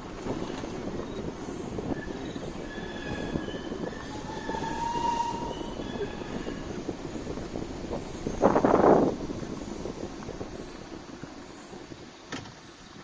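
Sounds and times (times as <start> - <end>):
wheels squealing: 0.0 - 12.0.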